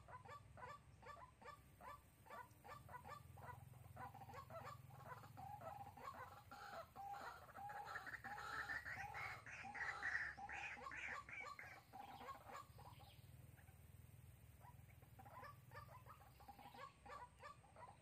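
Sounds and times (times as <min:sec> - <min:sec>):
bird clucking calls: 0:00.0 - 0:18.0.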